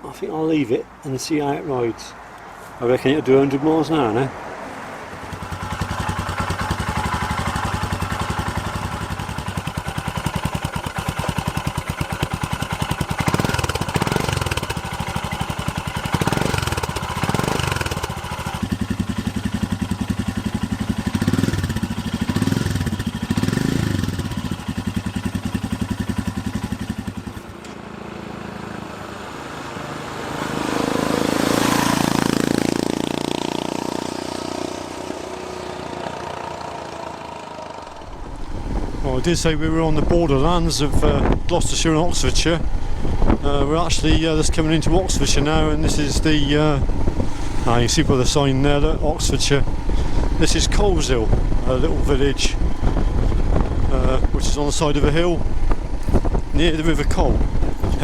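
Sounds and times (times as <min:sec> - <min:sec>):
motorcycle engine revving: 0:05.1 - 0:58.0.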